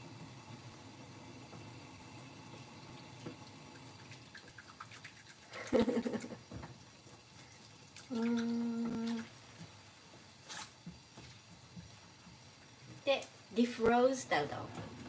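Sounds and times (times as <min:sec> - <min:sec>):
broth simmering and bubbling: 0:00.0 - 0:15.0.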